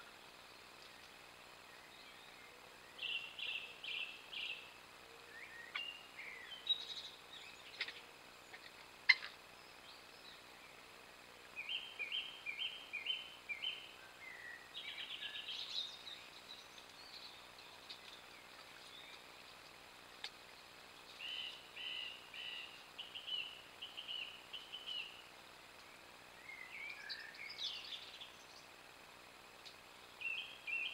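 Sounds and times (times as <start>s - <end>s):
song thrush singing: 0.0s - 30.9s.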